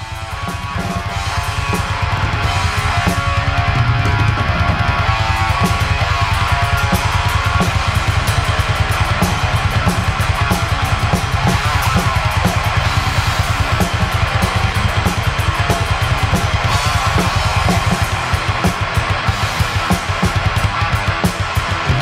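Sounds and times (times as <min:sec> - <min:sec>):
fast bass drum strokes: 0:00.0 - 0:22.0
heavy metal band playing: 0:00.0 - 0:22.0.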